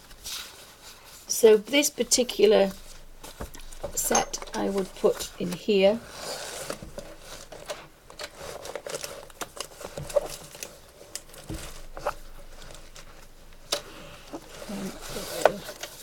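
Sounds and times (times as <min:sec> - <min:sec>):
pencils clicking and rustling: 0:00.0 - 0:16.0.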